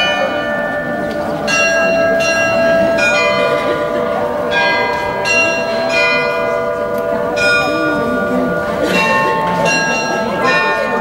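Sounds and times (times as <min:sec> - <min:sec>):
tower glockenspiel bells playing: 0:00.0 - 0:11.0.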